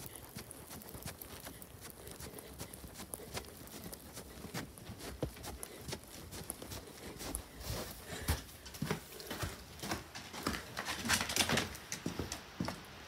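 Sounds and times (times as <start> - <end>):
footsteps in snow on wooden steps: 0.0 - 13.0.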